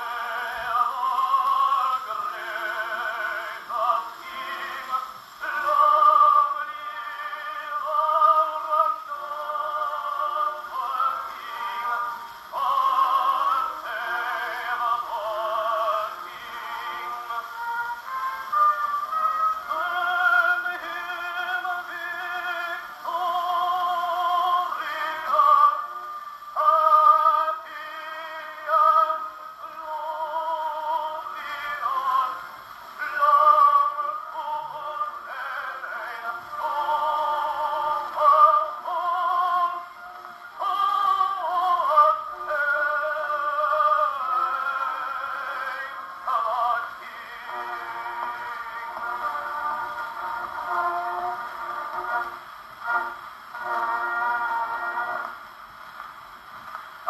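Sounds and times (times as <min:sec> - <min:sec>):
gramophone singing voice with vibrato: 0:00.0 - 0:57.0
record surface hiss: 0:00.0 - 0:57.0.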